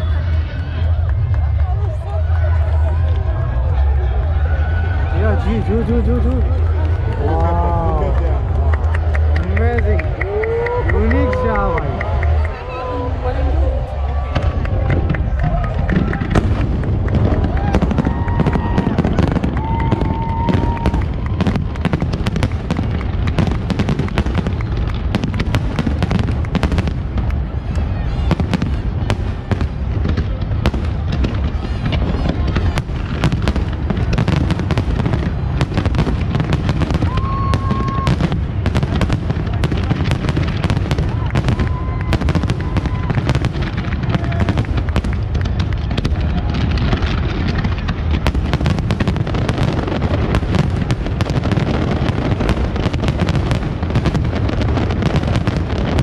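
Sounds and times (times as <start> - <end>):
fireworks bangs and crackles: 0.0 - 56.0
low rumble of bursts: 0.0 - 56.0.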